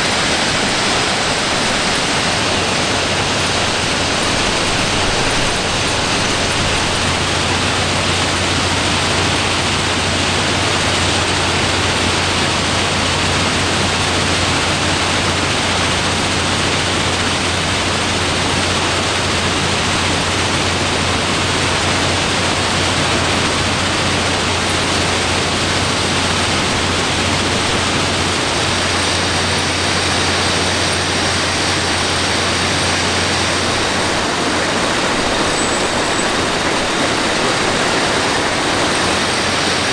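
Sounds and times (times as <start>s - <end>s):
machine engines and conveyors: 0.0s - 39.9s.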